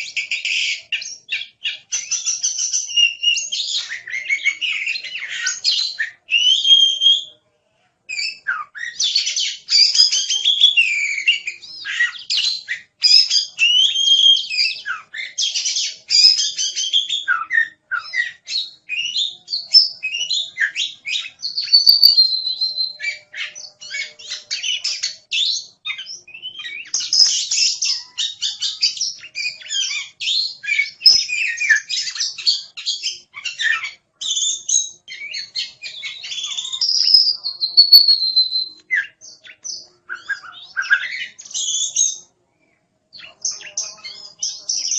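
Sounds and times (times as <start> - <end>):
songbird singing: 0.0 - 7.4, 8.1 - 44.9.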